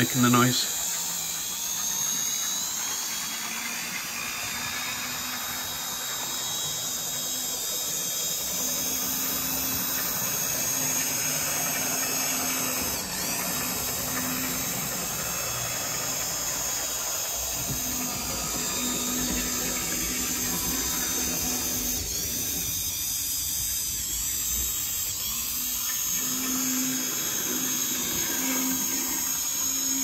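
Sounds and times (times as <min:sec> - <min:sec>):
model train motor whining: 0:00.0 - 0:30.0.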